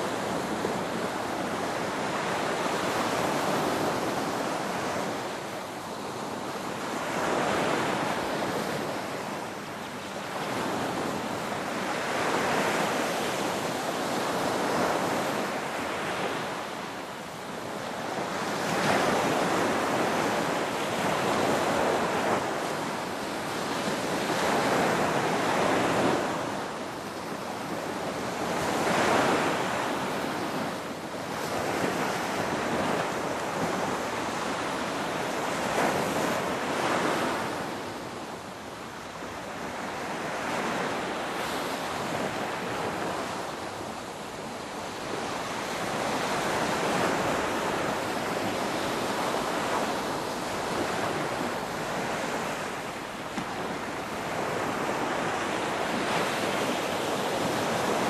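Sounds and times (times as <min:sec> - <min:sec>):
ocean waves breaking: 0:10.3 - 0:58.0.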